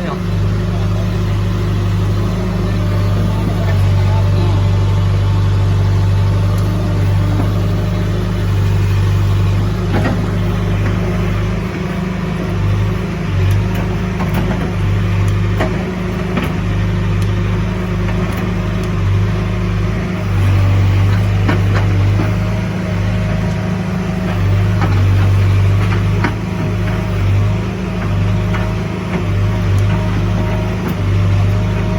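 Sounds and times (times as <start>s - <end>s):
diesel engine running under load: 0.0s - 31.9s.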